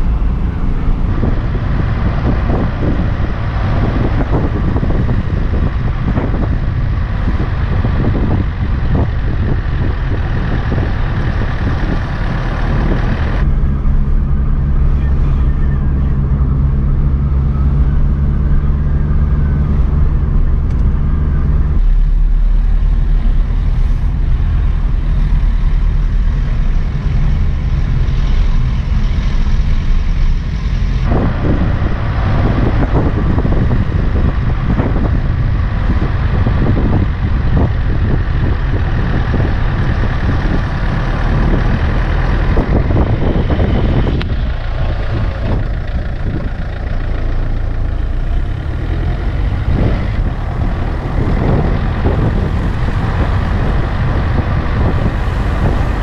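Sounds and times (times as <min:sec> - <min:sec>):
car engine drone: 0:00.0 - 0:56.0
wind rushing over microphone: 0:00.0 - 0:56.0.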